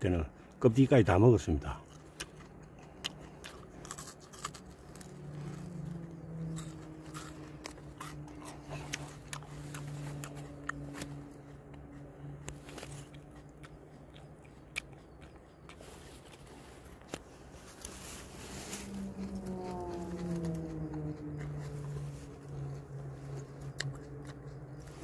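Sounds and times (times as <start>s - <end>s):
crunchy chewing: 0.0s - 25.0s
steady low drone: 0.0s - 25.0s.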